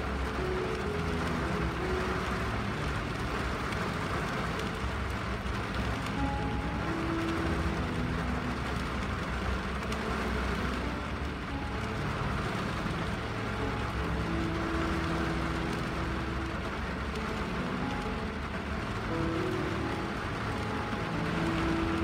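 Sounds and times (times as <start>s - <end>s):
rain on car windshield: 0.0s - 22.0s
soft melody of held notes: 0.0s - 22.0s.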